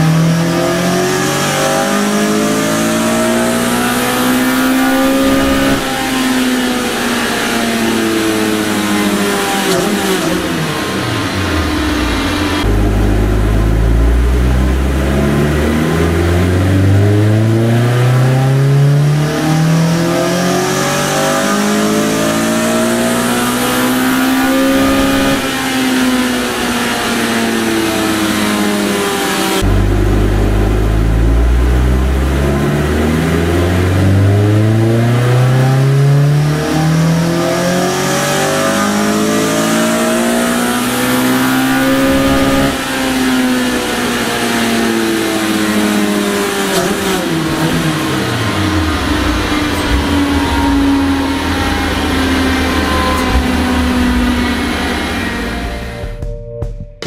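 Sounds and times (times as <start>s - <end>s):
engine revving on dyno: 0.0s - 56.1s.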